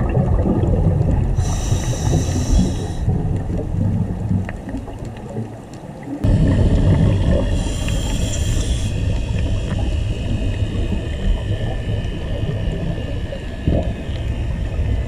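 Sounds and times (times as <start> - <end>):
water noise: 0.0 - 15.0.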